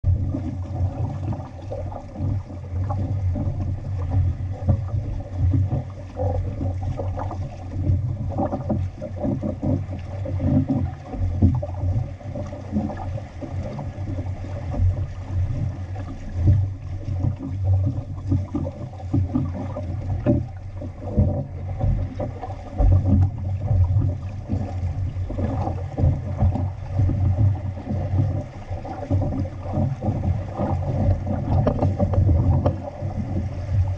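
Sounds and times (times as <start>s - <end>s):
water rushing along hull: 0.0s - 33.9s.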